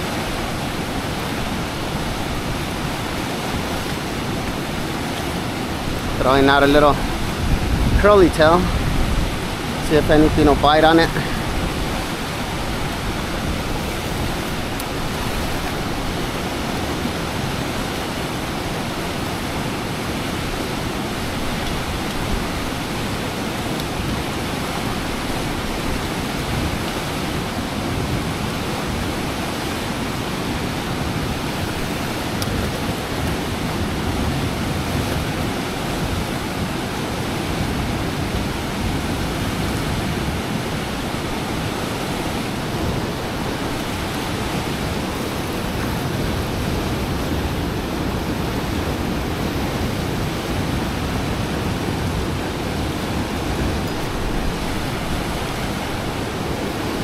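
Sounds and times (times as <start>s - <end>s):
fast water rushing: 0.0s - 57.0s.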